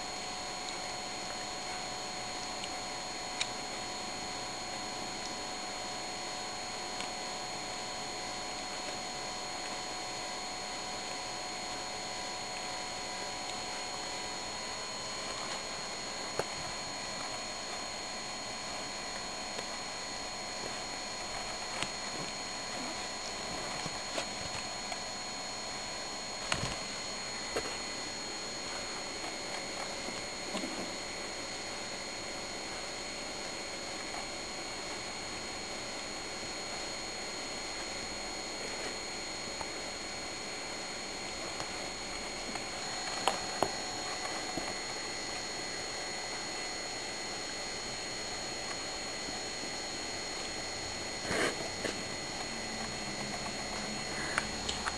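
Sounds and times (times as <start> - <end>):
faint high whine: 0.0 - 54.9.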